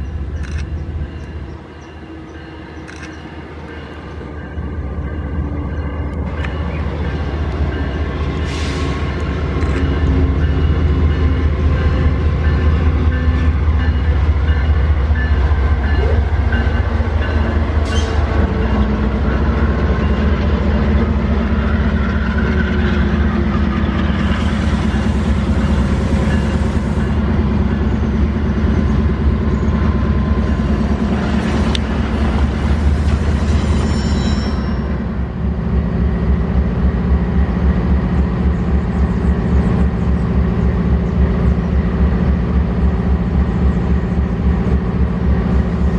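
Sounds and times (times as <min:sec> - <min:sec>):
locomotive engines rumbling: 0:00.0 - 0:45.9
train wheels on rails: 0:00.0 - 0:45.9.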